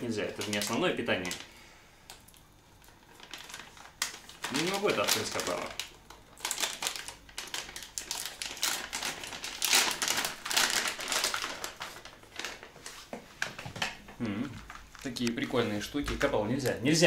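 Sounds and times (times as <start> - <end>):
plastic packet crinkling: 0.0 - 17.0.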